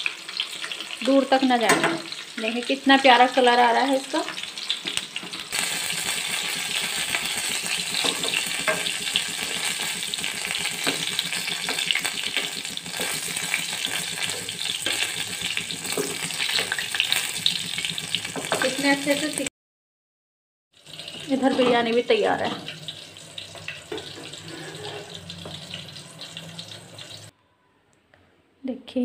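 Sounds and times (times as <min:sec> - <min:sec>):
meat deep-frying in hot oil: 0:00.0 - 0:19.5, 0:20.7 - 0:27.3.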